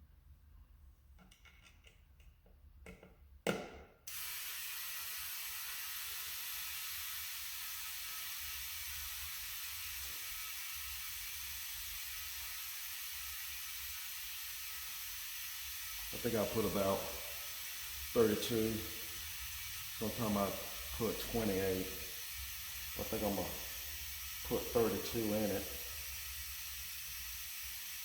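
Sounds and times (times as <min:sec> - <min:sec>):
compressed air hissing: 0:04.1 - 0:28.0.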